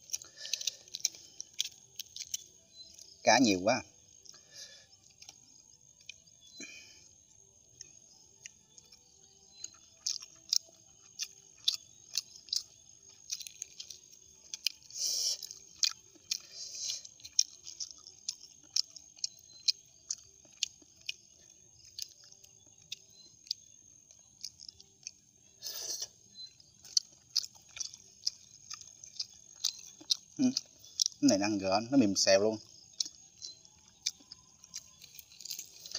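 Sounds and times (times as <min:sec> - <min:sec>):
wet mouth chewing clicks: 0:00.0 - 0:03.2, 0:07.8 - 0:31.4, 0:32.7 - 0:35.9.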